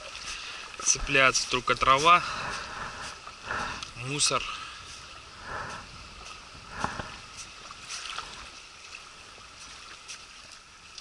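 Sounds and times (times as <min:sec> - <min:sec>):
faint water wash: 0:00.0 - 0:11.0
water lapping against ice: 0:00.0 - 0:11.0.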